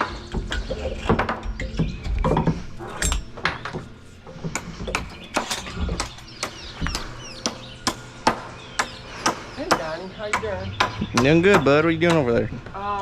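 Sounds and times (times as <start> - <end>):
hand tools knocking on wood: 0.0 - 12.5.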